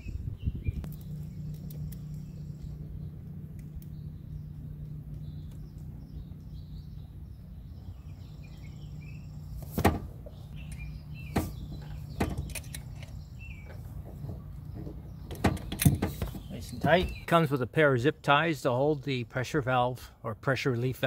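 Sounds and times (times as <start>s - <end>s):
low hum: 0.0s - 17.3s.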